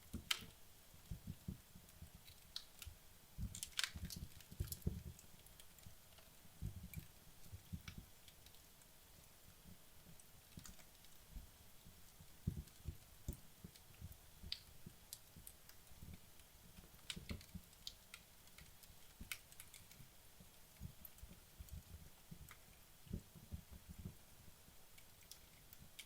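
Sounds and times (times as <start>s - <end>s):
fire snapping and popping: 0.0s - 26.0s
logs crackling in fireplace: 0.0s - 26.0s.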